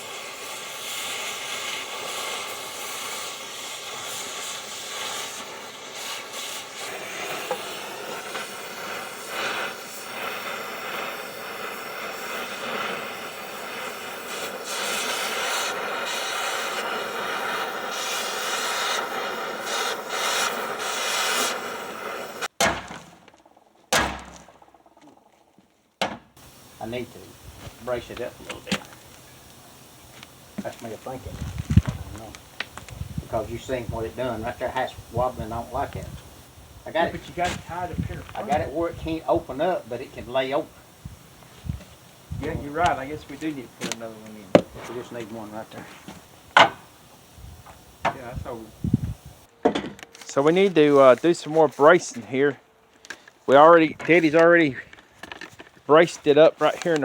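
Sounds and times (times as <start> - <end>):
cutting torch hissing: 0.0 - 22.6, 26.3 - 57.0.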